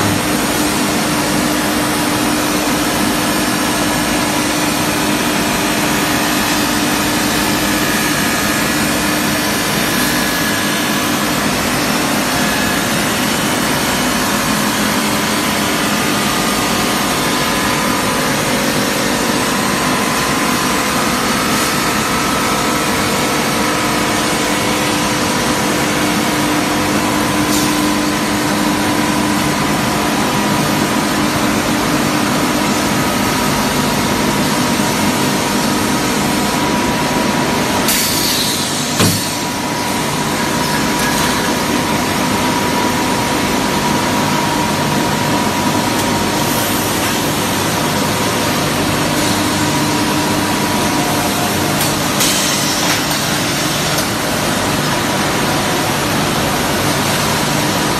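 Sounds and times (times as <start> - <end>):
industrial machinery din: 0.0 - 57.9.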